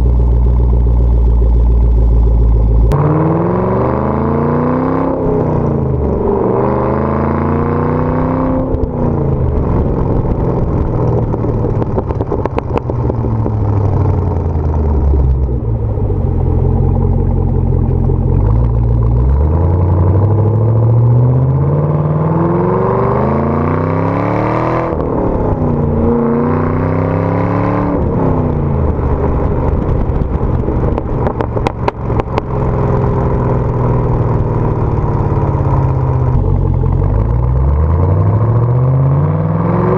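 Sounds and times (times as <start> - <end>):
exhaust crackles: 0.0 - 24.0, 27.8 - 39.9
car engine revving: 0.0 - 39.9.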